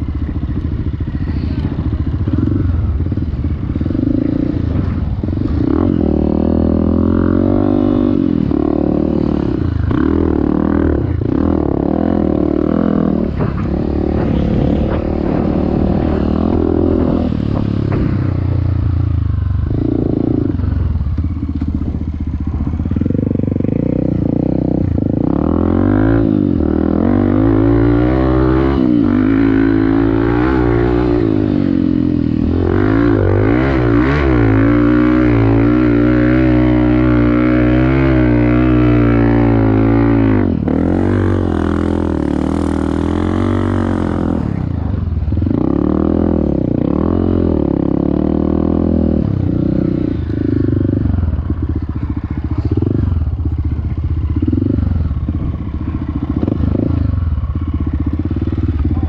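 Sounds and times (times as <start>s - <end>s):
motorcycle engine revving: 0.0s - 59.0s
motorcycle rattling over rough ground: 0.0s - 59.0s.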